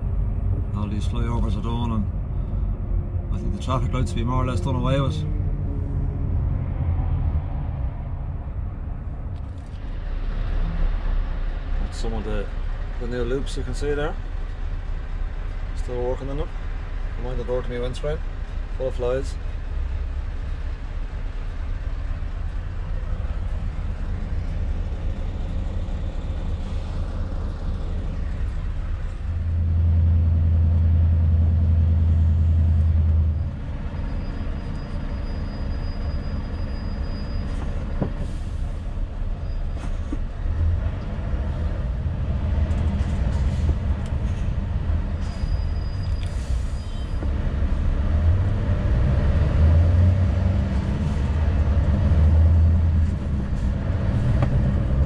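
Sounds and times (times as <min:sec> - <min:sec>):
diesel truck engine rumble: 0:00.0 - 0:55.0.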